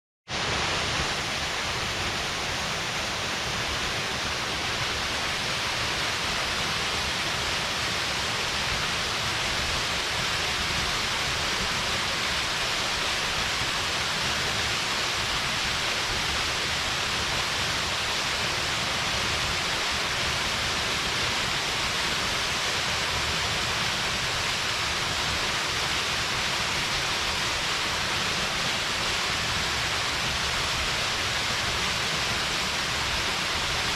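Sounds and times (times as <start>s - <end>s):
waterfall splashing into a pool: 0.3s - 33.9s.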